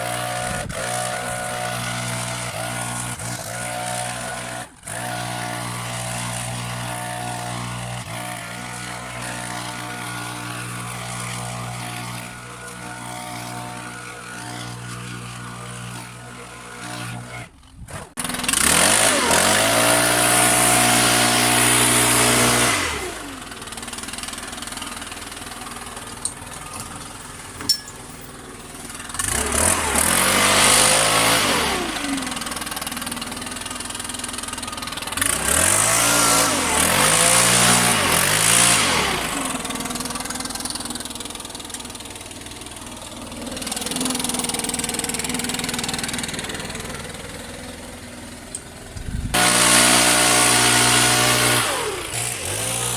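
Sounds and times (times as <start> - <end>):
wood chipper engine: 0.0 - 52.9.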